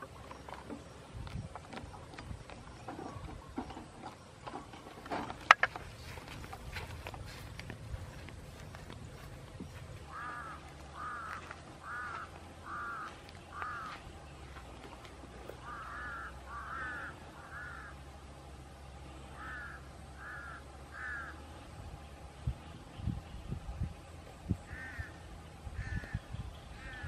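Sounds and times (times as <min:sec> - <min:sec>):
bird calling: 0:00.0 - 0:18.2, 0:18.9 - 0:23.6, 0:24.2 - 0:27.0
steady low hum: 0:00.0 - 0:27.0.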